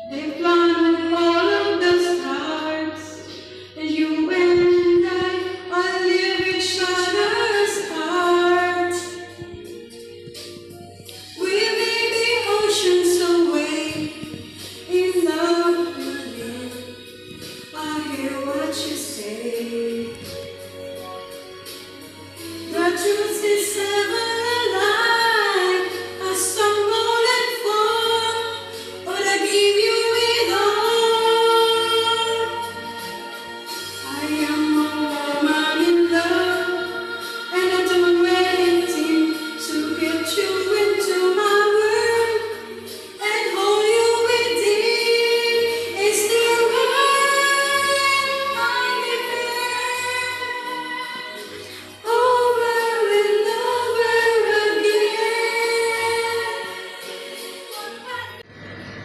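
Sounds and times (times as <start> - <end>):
woman singing into a microphone: 0.0 - 20.5, 22.6 - 58.4
karaoke backing track: 0.0 - 59.0.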